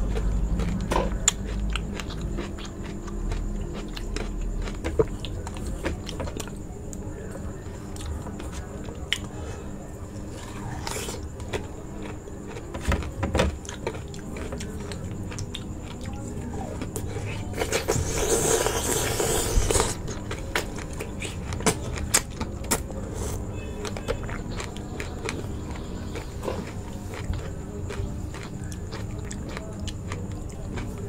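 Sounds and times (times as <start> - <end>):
biting and chewing: 0.0 - 7.1, 10.1 - 31.0.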